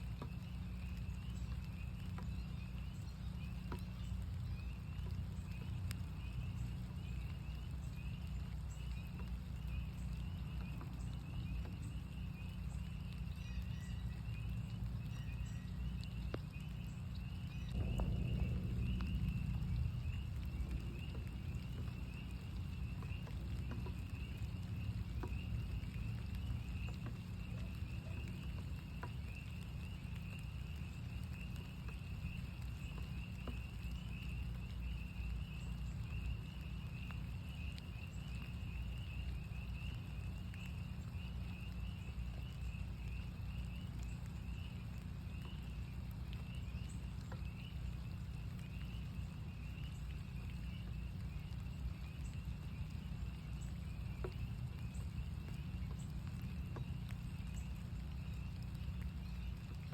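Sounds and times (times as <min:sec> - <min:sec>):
frogs peeping in chorus: 0:00.0 - 0:59.9
light rain patter: 0:00.0 - 0:59.9
steady low rumble: 0:00.0 - 0:59.9.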